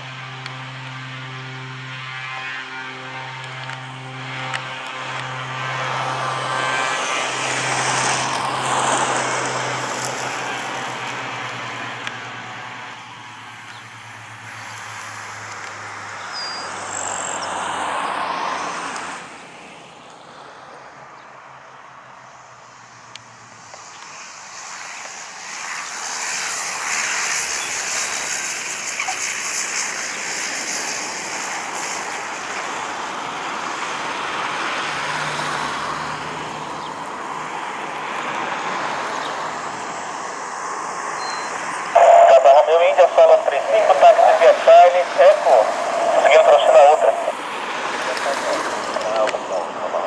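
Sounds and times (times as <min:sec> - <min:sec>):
aircraft engine rushing: 0:00.0 - 0:50.0.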